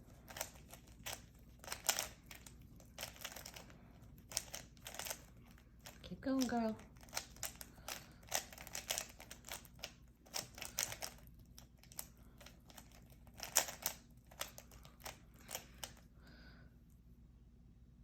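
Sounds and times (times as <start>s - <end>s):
plastic cube clicking: 0.3s - 16.0s.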